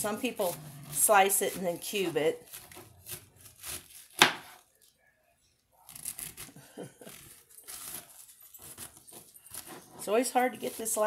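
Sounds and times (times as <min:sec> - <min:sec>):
knife slicing through cabbage: 0:00.0 - 0:04.6, 0:05.9 - 0:11.0.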